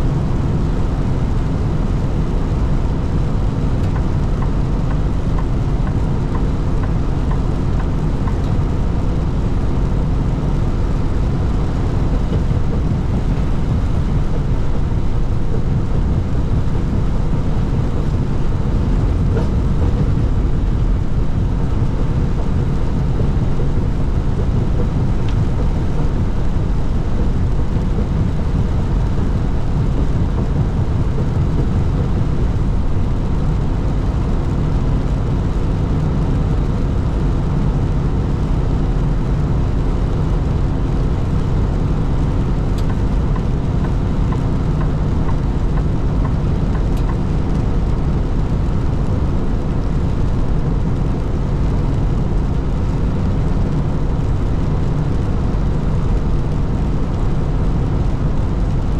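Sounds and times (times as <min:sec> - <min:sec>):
low engine drone: 0:00.0 - 0:58.9
road noise: 0:00.0 - 0:58.9.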